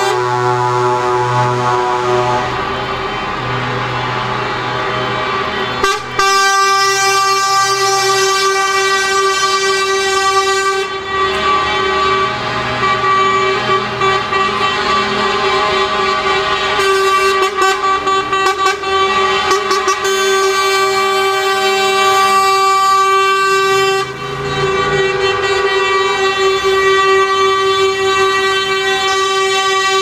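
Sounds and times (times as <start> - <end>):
diesel engines running: 0.0 - 30.0
truck air horn blast: 0.0 - 30.0.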